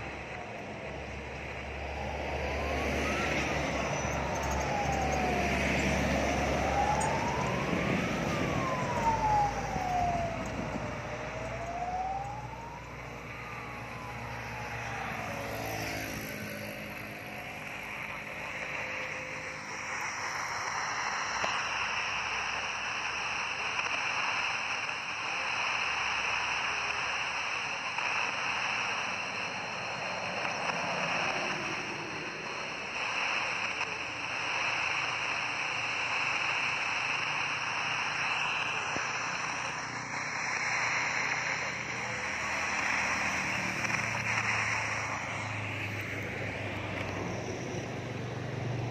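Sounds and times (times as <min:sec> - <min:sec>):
shortwave radio static hiss: 0:00.0 - 0:48.9
weak radio signal: 0:00.0 - 0:48.9.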